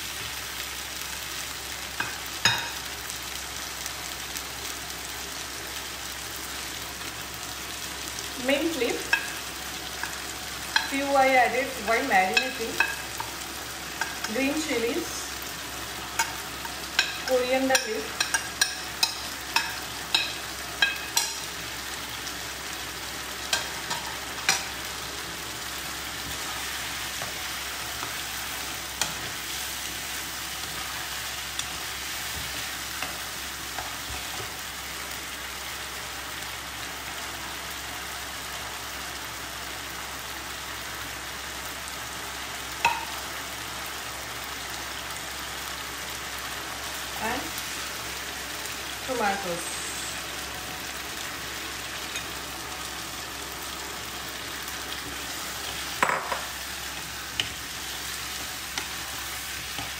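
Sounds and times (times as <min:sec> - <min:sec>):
meat sizzling in a frying pan: 0:00.0 - 0:59.9.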